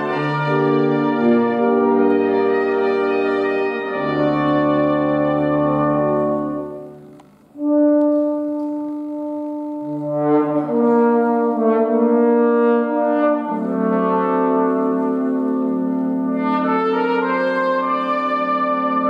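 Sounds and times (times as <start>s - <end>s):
brass chords: 0.0s - 19.0s.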